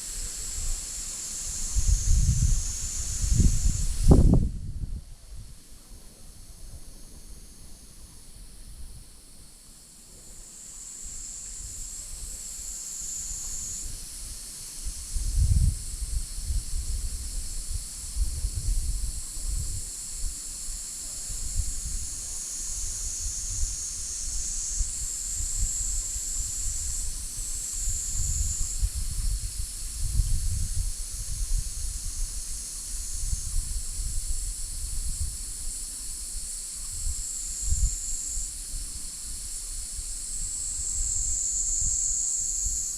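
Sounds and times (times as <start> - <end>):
wind rumble on microphone: 0.0 - 7.4, 13.4 - 42.9
insects buzzing: 0.0 - 42.9.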